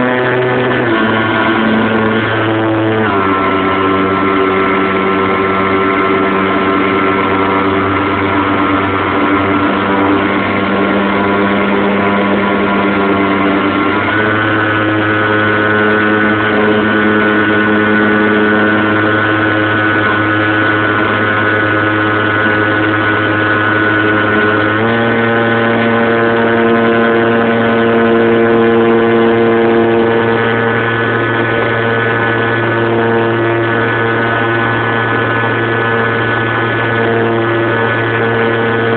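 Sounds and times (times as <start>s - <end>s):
model airplane motor: 0.0s - 38.9s.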